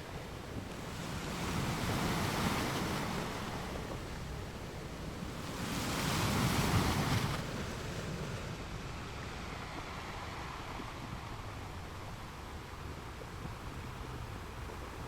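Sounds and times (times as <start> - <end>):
surf washing: 0.0 - 13.6.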